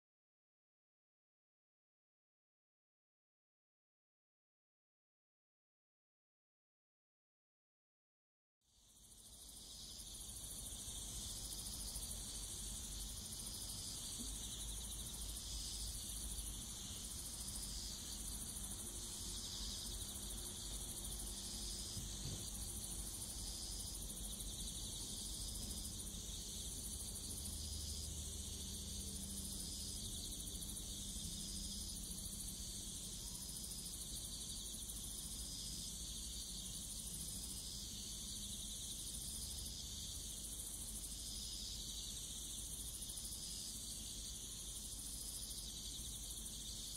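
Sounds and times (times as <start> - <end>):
crickets and insects chirring: 8.8 - 46.9.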